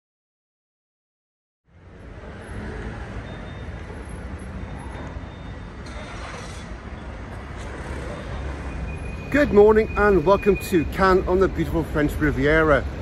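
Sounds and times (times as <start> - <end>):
road vehicles passing: 1.7 - 13.0.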